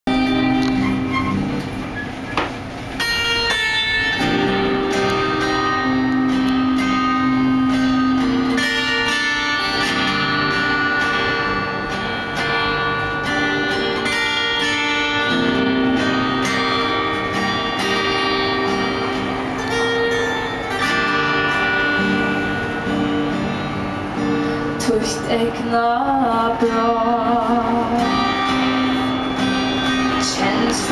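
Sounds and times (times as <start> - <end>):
acoustic guitar chords: 0.1 - 30.9.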